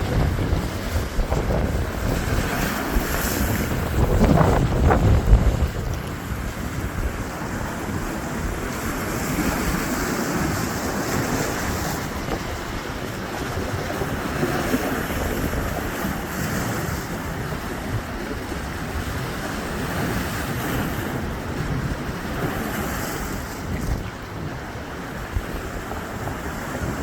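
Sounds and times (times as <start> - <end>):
surf breaking: 0.0 - 24.5
wind buffeting microphone: 0.0 - 27.0.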